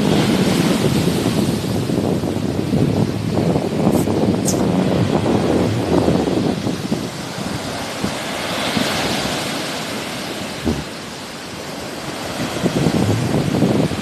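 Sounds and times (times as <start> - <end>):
sea waves washing in: 0.0 - 14.0
wind rumbling on microphone: 0.0 - 14.0.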